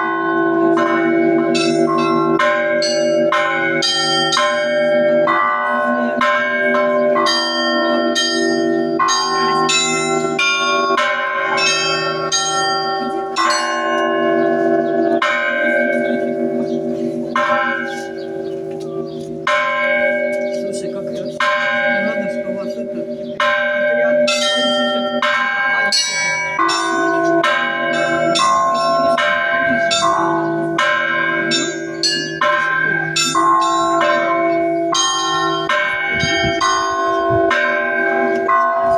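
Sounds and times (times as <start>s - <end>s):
low hum of large bells: 0.0s - 38.9s
small bells struck rapidly: 0.6s - 38.9s.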